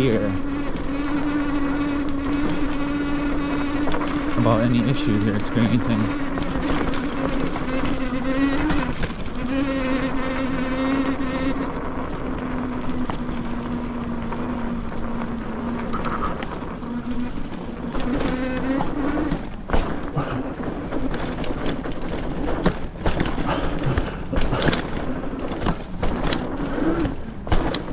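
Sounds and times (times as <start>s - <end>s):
bike rolling: 0.0s - 27.9s
electric motor whining: 0.0s - 27.9s.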